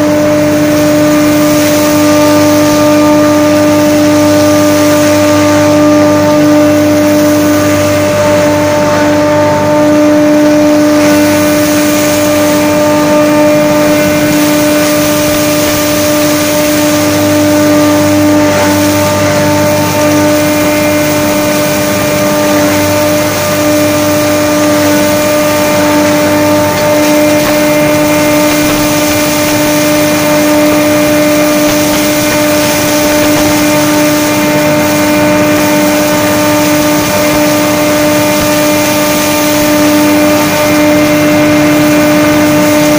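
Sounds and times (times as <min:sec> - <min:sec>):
loud machine hum: 0:00.0 - 0:42.9.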